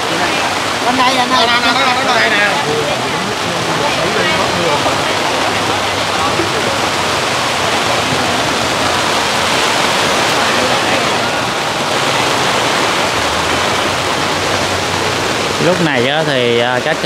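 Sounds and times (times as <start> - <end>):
faint crowd chatter: 0.0 - 17.0
heavy rain on a tarp: 0.0 - 17.0.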